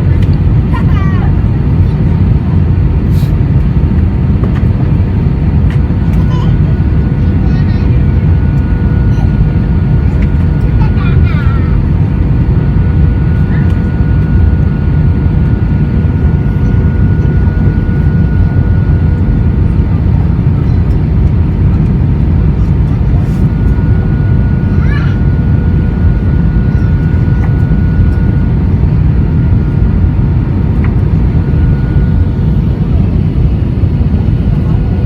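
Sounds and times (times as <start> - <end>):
jet engine rumble in cabin: 0.0 - 35.0
thin steady whine: 0.0 - 35.0.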